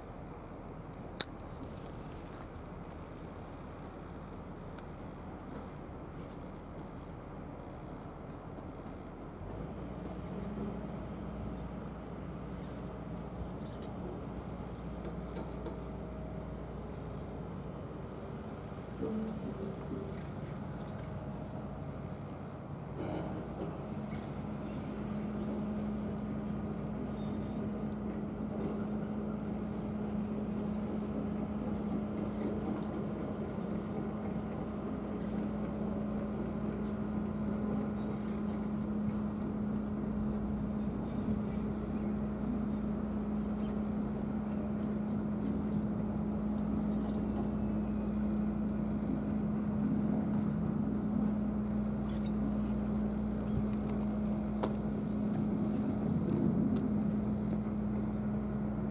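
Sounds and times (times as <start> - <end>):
engine running: 1.5 - 58.9.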